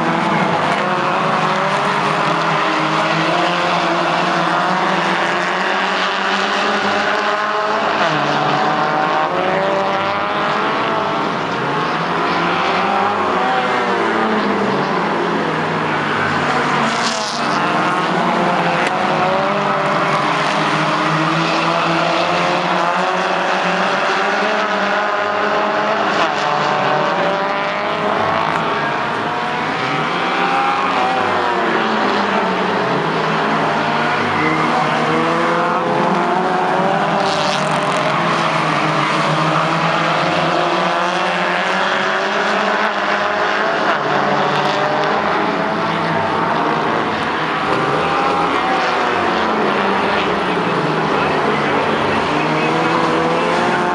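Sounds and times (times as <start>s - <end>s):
race car engines: 0.0s - 53.9s.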